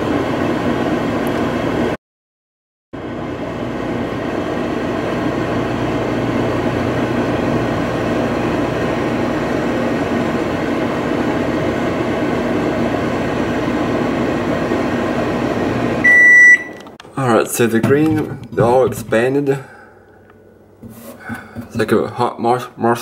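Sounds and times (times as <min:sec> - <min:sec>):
microwave fan whirring: 0:00.0 - 0:02.0, 0:03.0 - 0:23.0
microwave oven humming: 0:00.0 - 0:02.0, 0:03.0 - 0:22.2.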